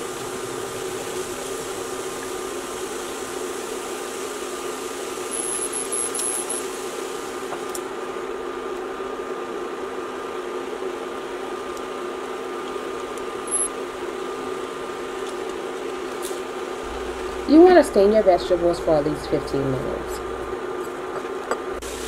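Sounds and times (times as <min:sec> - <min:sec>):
fan whirring: 0:00.0 - 0:22.0.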